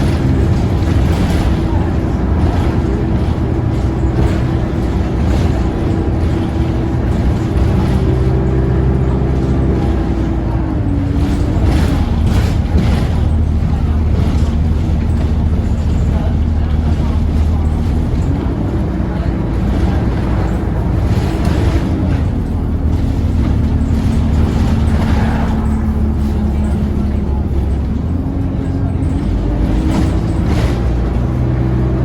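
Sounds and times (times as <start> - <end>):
bus engine running loud: 0.0 - 32.0
engine whine: 0.0 - 32.0.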